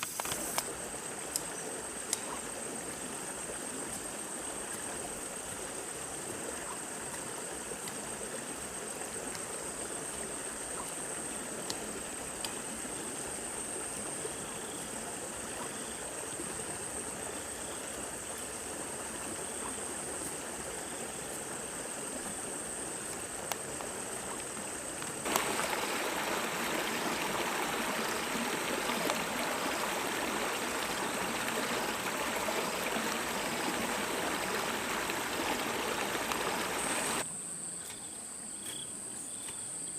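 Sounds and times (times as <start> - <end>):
flowing water: 0.0 - 37.2
faint pulsing insect call: 0.0 - 39.9.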